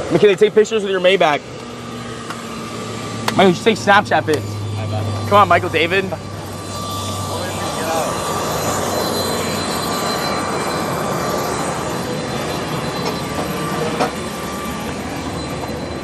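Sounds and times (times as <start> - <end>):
jet engine running: 0.0 - 16.0.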